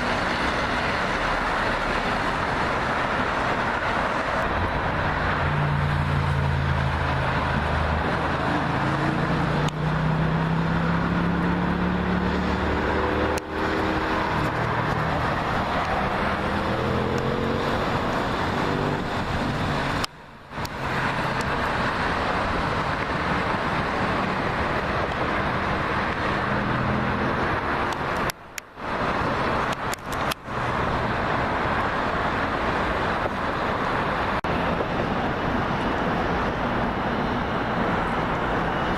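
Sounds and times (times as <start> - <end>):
highway traffic noise: 0.0 - 38.9
vehicle engine accelerating: 0.0 - 38.9.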